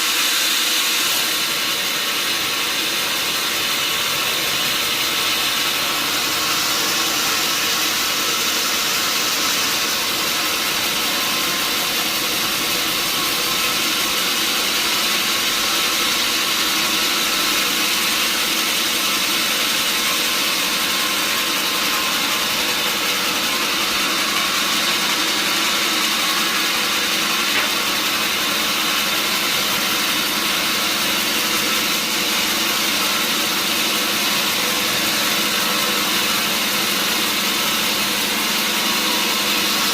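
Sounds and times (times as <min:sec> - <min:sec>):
band saw and engine droning: 0:01.0 - 0:39.9.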